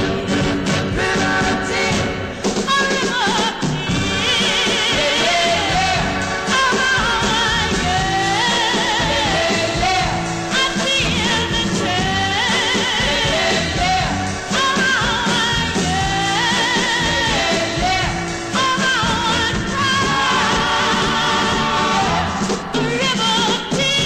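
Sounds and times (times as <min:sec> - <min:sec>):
full band playing soul music: 0:00.0 - 0:24.0
singer with wide vibrato: 0:00.8 - 0:24.0.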